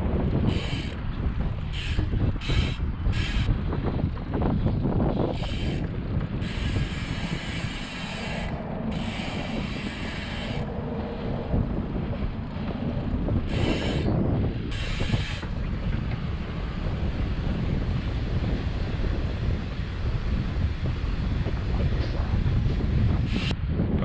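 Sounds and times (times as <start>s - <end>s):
wind rumbling on microphone: 0.0s - 24.0s
bicycle freewheel ticking: 0.2s - 23.6s.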